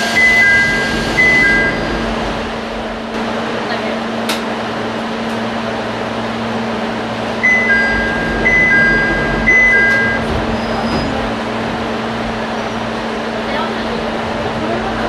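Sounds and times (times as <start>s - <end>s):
railcar equipment humming: 0.0s - 15.0s.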